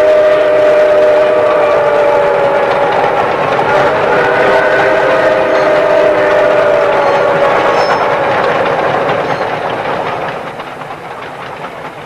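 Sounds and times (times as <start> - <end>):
steam locomotive whistle: 0.0 - 9.8
passing train rumble and clatter: 0.0 - 12.0.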